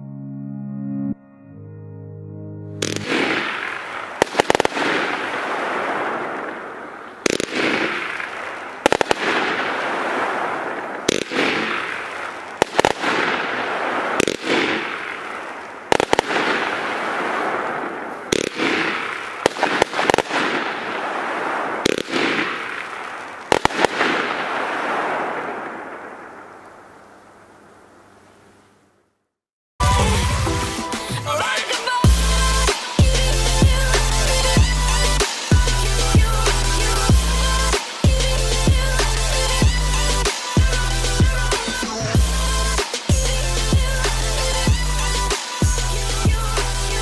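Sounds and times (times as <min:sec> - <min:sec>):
firework reports with hiss: 0:02.8 - 0:26.0, 0:30.0 - 0:47.0.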